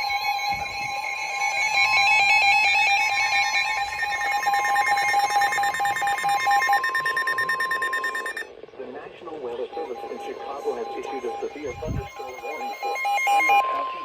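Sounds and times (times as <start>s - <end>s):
rapid pulsing electronic beeps: 0.0s - 8.5s, 9.3s - 13.7s
steady warning alarm tone: 0.0s - 8.5s, 9.3s - 14.0s.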